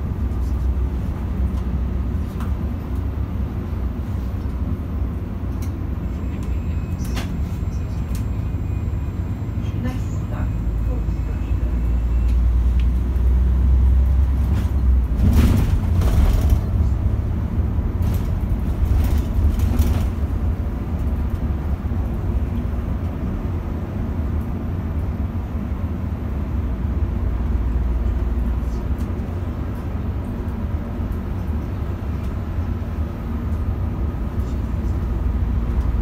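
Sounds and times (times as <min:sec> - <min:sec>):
bus engine and road rumble: 0:00.0 - 0:36.0.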